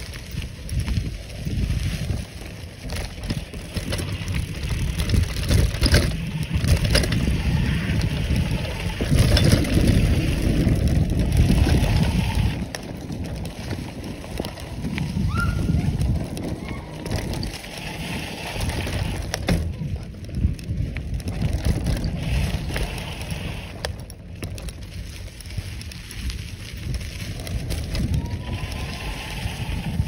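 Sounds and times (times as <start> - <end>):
tyres crunching over dry leaves: 0.0 - 30.0
wind buffeting microphone: 0.0 - 30.0.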